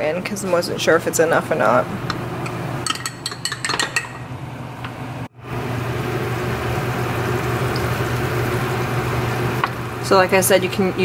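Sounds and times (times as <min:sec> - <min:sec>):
low stove hum: 0:00.0 - 0:11.0.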